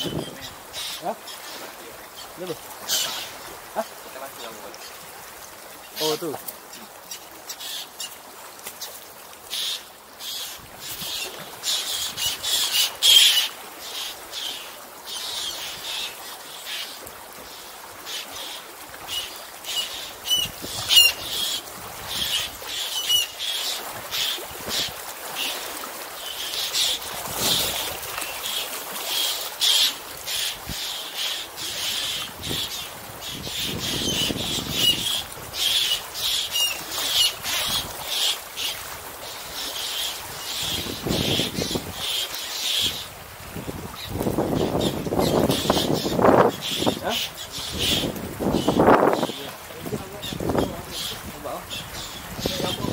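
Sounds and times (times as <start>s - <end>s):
seabirds calling: 0.0s - 52.9s.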